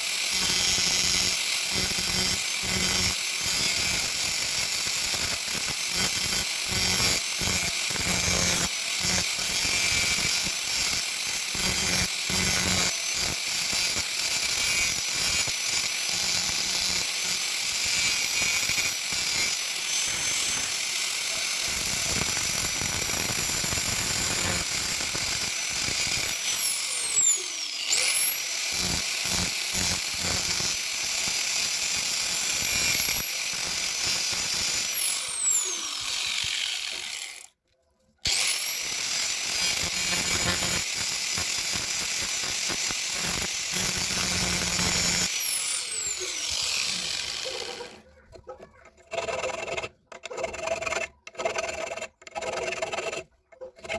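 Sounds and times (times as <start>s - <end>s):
electric drill motor whining: 0.0s - 37.5s, 38.3s - 48.0s.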